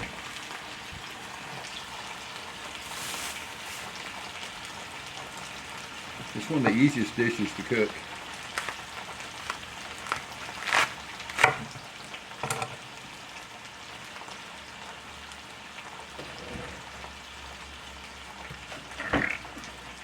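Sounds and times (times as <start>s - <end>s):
potatoes and onions sizzling: 0.0s - 20.0s.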